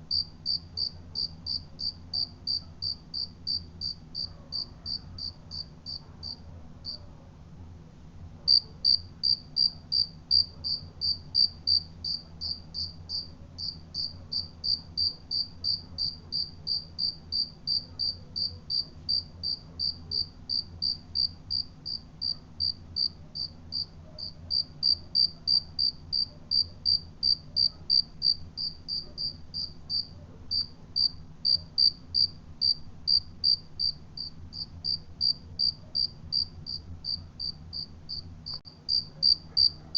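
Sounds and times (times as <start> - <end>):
cricket chirping: 0.1 - 7.0, 8.5 - 39.8.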